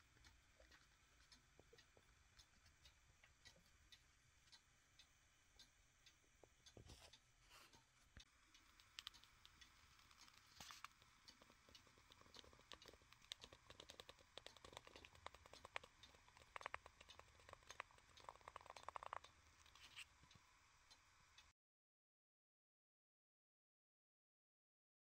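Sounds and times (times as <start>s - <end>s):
clock mechanism clicking: 0.0s - 21.5s.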